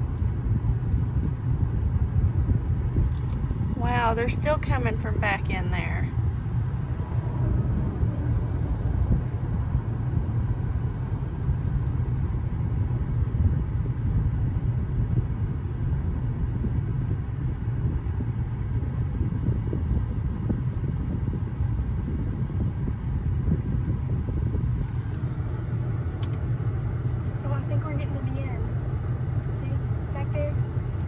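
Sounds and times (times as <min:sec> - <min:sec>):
low rumble of vehicles: 0:00.0 - 0:31.0.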